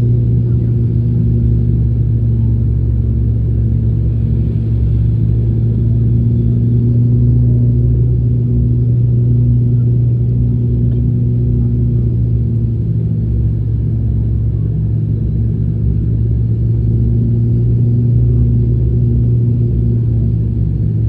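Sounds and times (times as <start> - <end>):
airliner propeller drone in cabin: 0.0 - 21.0.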